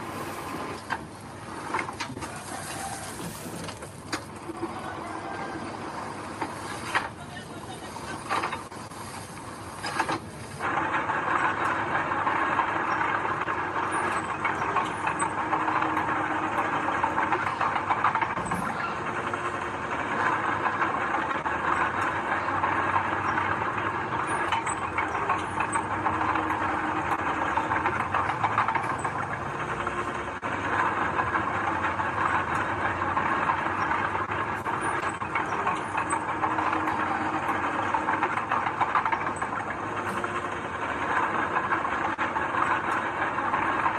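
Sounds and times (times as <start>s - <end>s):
metallic track clatter: 0.0s - 43.9s.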